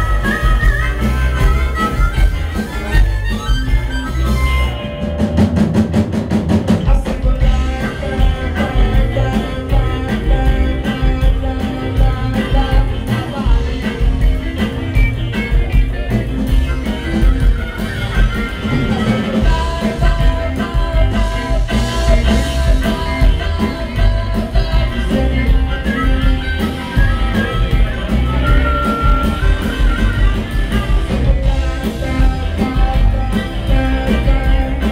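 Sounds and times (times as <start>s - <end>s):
harmonica: 0.0s - 5.6s, 7.0s - 34.9s
reggae band playing: 0.0s - 34.9s.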